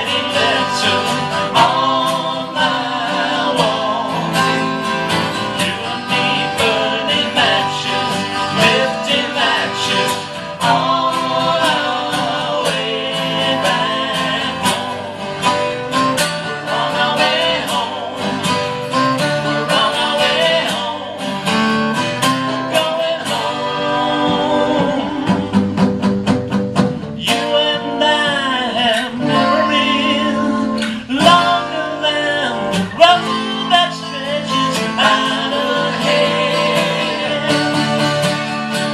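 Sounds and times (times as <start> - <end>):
person singing: 0.0 - 21.4, 22.4 - 26.0, 27.2 - 38.2
acoustic guitar strumming: 0.0 - 38.9.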